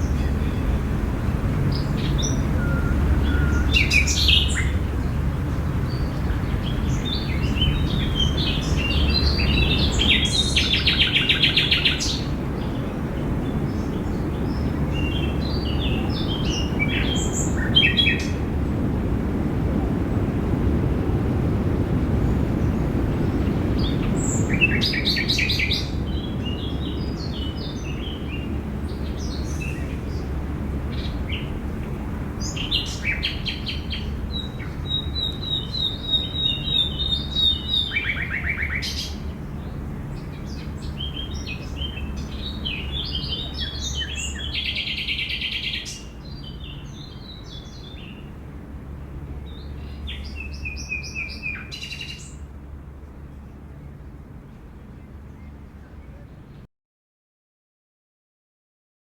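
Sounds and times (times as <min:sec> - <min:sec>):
songbirds chirping and singing: 0:00.0 - 0:18.4, 0:23.4 - 0:56.6
low background rumble: 0:00.0 - 0:56.7.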